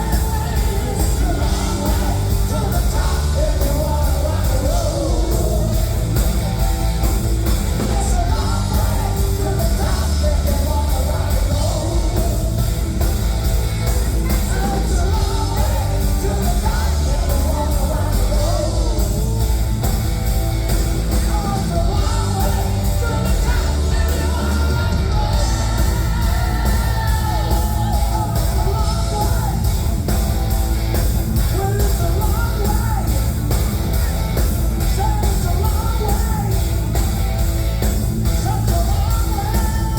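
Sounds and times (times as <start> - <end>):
loud rock music with singer: 0.0 - 39.9.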